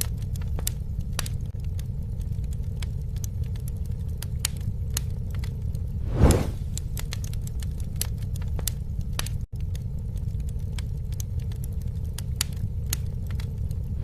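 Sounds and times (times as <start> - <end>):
campfire flames rumbling: 0.0 - 14.0
fire crackling and popping: 0.0 - 14.0.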